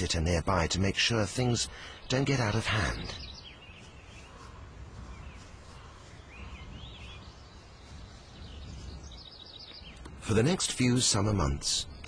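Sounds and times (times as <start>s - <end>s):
background hiss and low rumble: 0.0s - 12.0s
small birds chirping: 0.0s - 12.0s.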